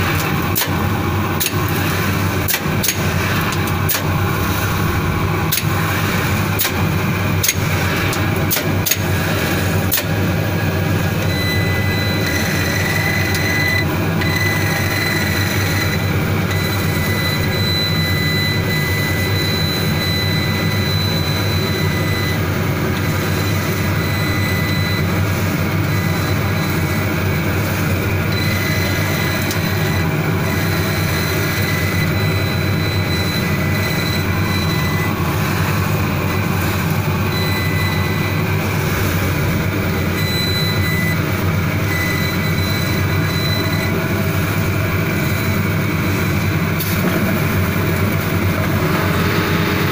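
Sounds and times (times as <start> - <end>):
machine running loudly: 0.0 - 49.9.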